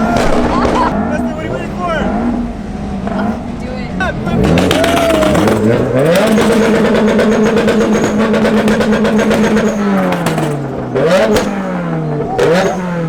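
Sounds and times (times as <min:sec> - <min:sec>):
car engine revving: 0:00.0 - 0:13.0
exhaust crackle: 0:00.0 - 0:13.0.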